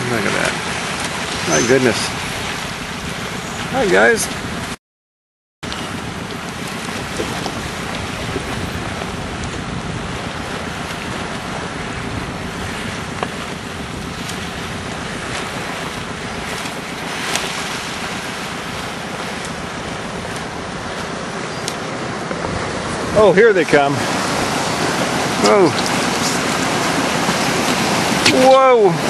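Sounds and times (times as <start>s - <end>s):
sea water rushing: 0.0s - 4.8s, 5.6s - 29.0s
wind buffeting microphone: 0.0s - 4.8s, 5.6s - 29.0s.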